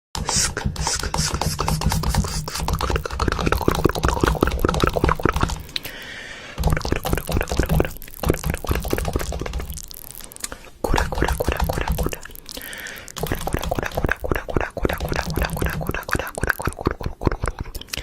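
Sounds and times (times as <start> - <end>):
fast clicking beat: 0.2 - 5.9, 6.6 - 18.0.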